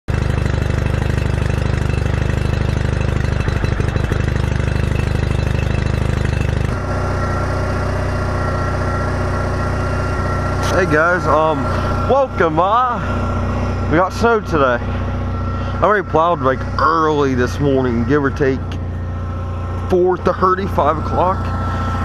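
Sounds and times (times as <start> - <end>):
tractor engine running: 0.1 - 22.0.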